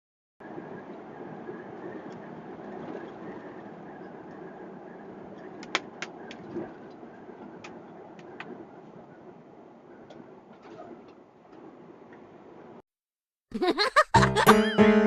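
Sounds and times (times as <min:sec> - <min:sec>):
vehicle engine and road noise: 0:00.4 - 0:12.8.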